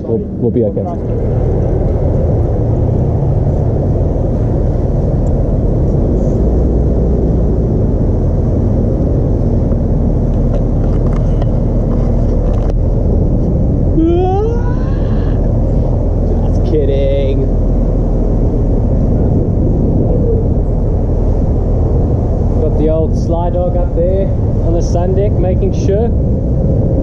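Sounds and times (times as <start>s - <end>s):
boat engines rumbling: 0.0s - 27.0s.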